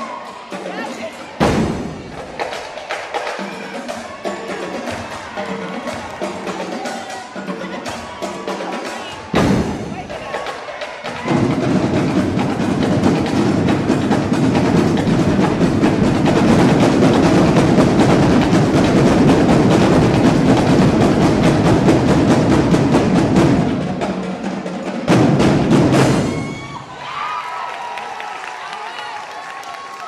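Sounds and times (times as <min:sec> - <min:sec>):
drum section playing fast cadence: 0:00.0 - 0:30.0.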